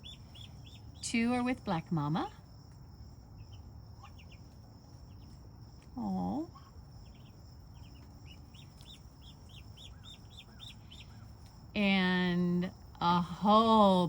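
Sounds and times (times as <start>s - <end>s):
ducklings peeping: 0.0s - 11.6s.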